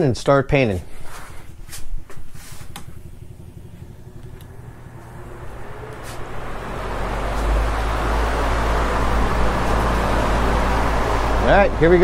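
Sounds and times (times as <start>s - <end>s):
exhaust fan rushing air: 0.0s - 12.0s.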